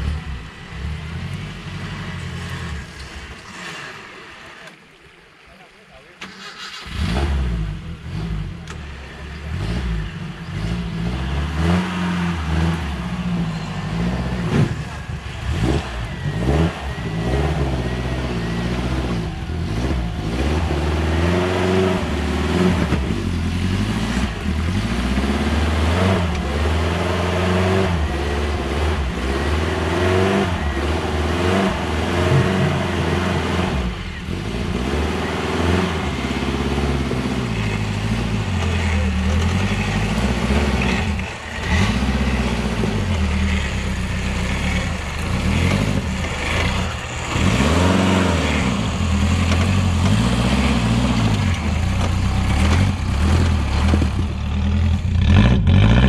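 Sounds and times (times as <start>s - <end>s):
vehicle engine revving: 0.0s - 4.8s, 6.2s - 56.0s.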